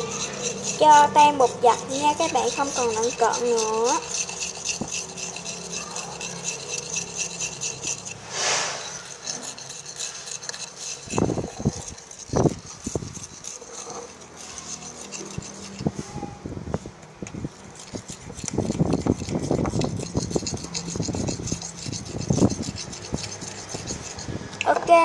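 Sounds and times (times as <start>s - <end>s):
spoon stirring in container: 0.0s - 8.2s, 8.8s - 15.9s, 17.6s - 24.3s.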